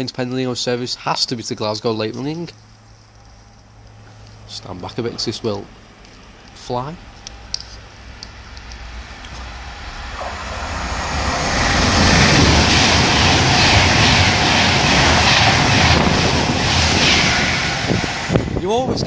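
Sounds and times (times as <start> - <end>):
high-speed train passing: 2.7 - 19.0.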